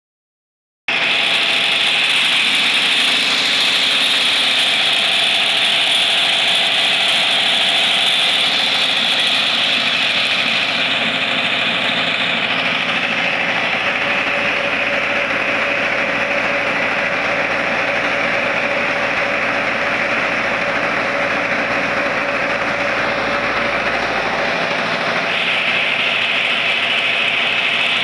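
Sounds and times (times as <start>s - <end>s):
flour mill whirring: 0.9s - 28.0s.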